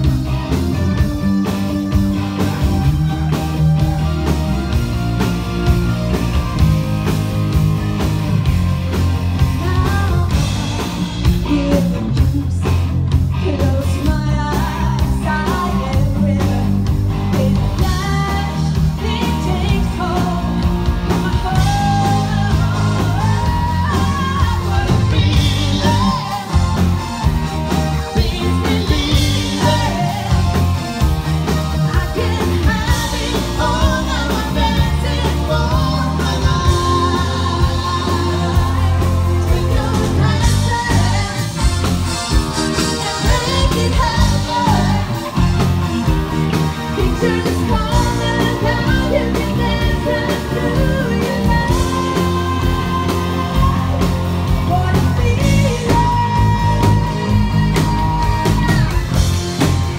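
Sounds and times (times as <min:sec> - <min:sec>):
heavy bass line: 0:00.0 - 0:59.9
live rock band playing: 0:00.0 - 0:59.9
woman singing: 0:09.4 - 0:30.9, 0:31.8 - 0:59.4.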